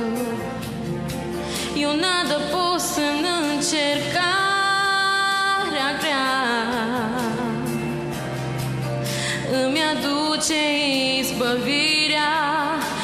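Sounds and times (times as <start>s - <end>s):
woman singing worship song: 0.0s - 0.8s, 1.5s - 8.0s, 9.2s - 13.0s
musical accompaniment: 0.0s - 13.0s.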